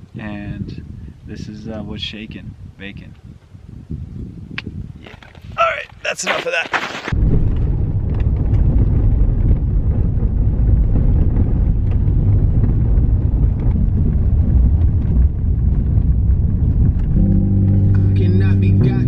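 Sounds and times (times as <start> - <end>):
tyre and wind noise: 0.0 - 19.0.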